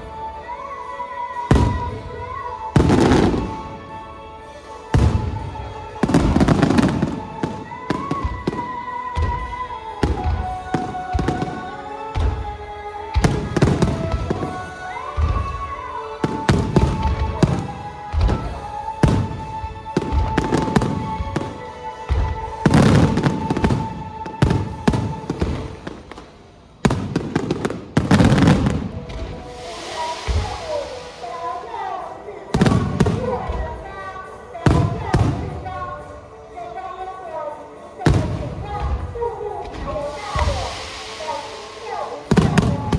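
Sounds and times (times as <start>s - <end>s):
music with long held notes: 0.0s - 42.9s
fireworks booming and crackling: 1.5s - 3.8s, 4.9s - 31.7s, 32.5s - 34.0s, 34.6s - 36.1s, 38.0s - 42.9s.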